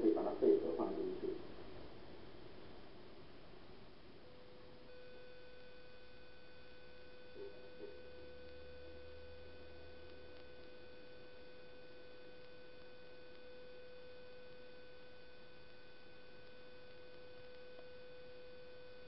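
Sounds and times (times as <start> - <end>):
electrical hum and whine: 0.0 - 19.0.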